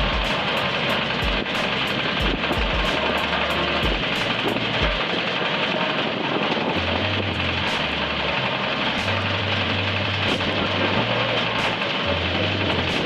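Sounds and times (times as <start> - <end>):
background music with bass line: 0.0 - 5.0, 6.8 - 13.0
diesel engine of concrete mixer: 0.0 - 13.0.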